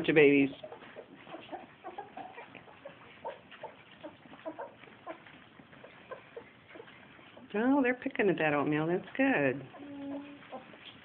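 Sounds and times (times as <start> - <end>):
puppies eating smacking: 0.0 - 11.0.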